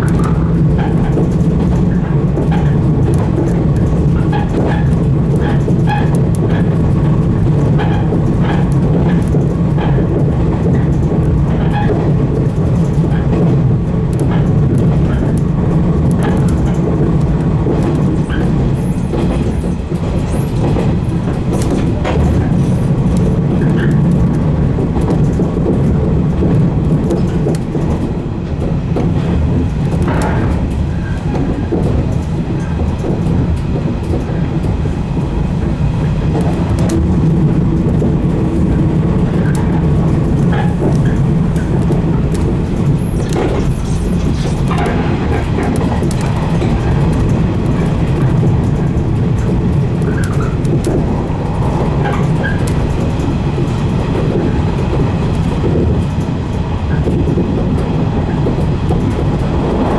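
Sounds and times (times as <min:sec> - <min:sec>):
rail clicks: 0:00.0 - 0:59.9
train wheels rumbling: 0:00.0 - 0:59.9.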